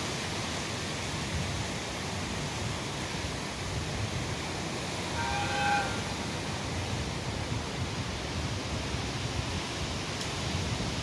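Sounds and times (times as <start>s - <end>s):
wind through trees: 0.0s - 11.0s
wind buffeting microphone: 0.1s - 11.0s.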